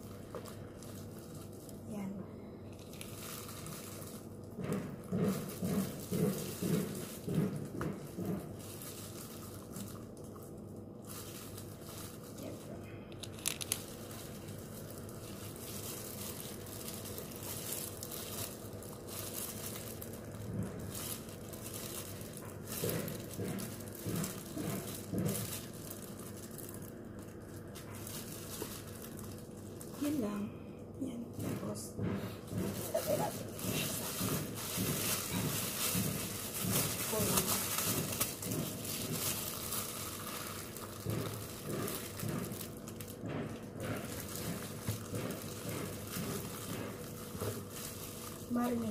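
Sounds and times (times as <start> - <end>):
plastic gloves crinkling: 0.0 - 48.9.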